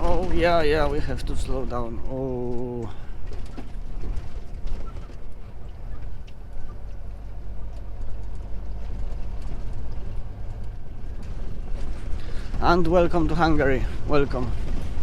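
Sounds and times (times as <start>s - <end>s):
road and tyre noise: 0.0s - 15.0s
truck diesel engine running: 0.0s - 15.0s.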